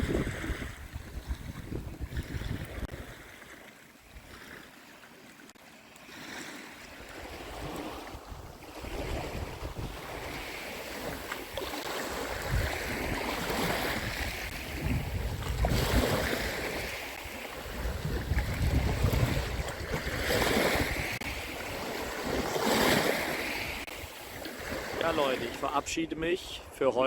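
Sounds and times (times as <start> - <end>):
wind buffeting microphone: 0.0 - 3.1, 7.1 - 26.8
waves washing onto a beach: 0.0 - 25.9.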